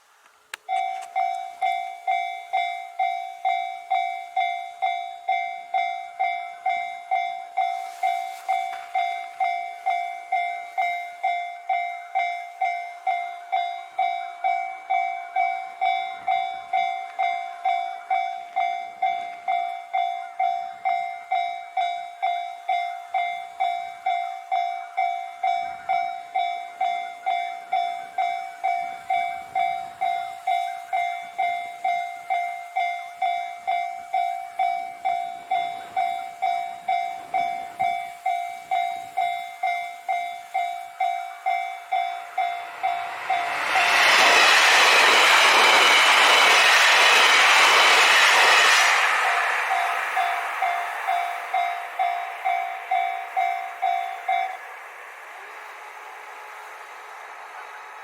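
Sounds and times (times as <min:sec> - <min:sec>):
level crossing warning bell: 0:00.6 - 0:58.0.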